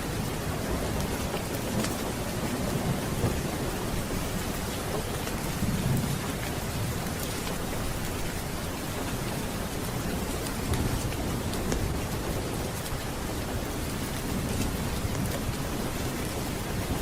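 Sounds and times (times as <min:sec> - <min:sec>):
heavy rain: 0:00.0 - 0:17.0
low rolling thunder: 0:00.0 - 0:17.0.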